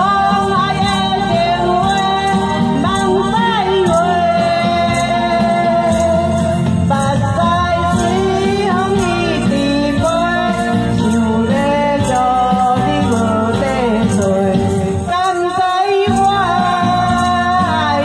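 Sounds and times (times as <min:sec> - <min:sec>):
amplified backing music: 0:00.0 - 0:18.0
tambourines jingling: 0:00.0 - 0:18.0
woman singing into a microphone: 0:00.0 - 0:18.0.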